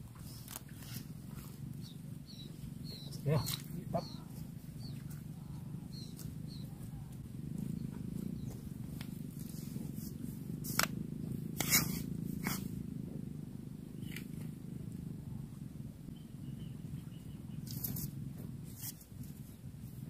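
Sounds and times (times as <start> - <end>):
wind buffeting microphone: 1.2 - 20.0.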